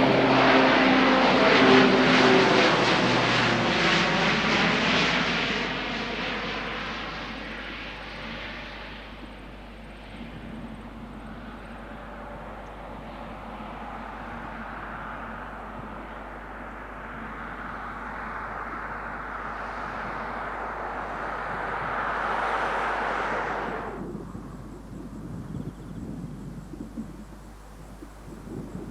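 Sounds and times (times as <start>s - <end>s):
turboprop engines at takeoff: 0.0s - 28.9s.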